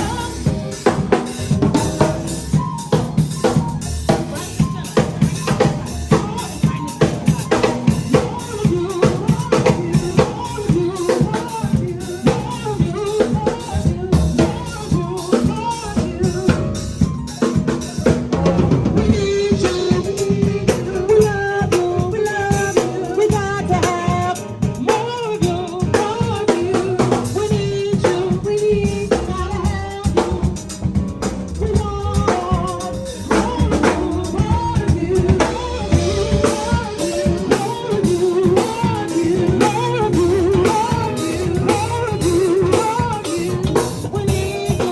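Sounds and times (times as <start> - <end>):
drum kit with snare rimshots: 0.0 - 44.9
live band playing gospel song: 0.0 - 44.9.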